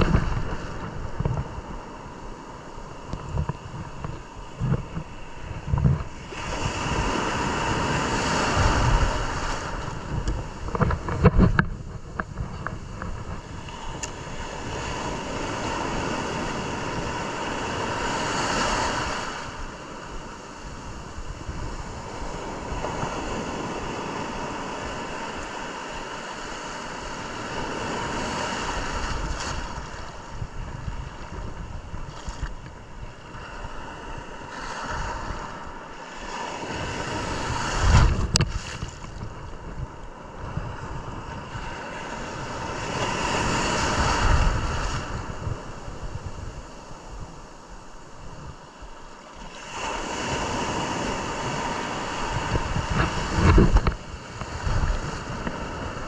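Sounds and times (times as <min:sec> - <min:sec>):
surf breaking on a beach: 0:00.0 - 0:56.0
wind blowing across microphone: 0:00.0 - 0:56.0.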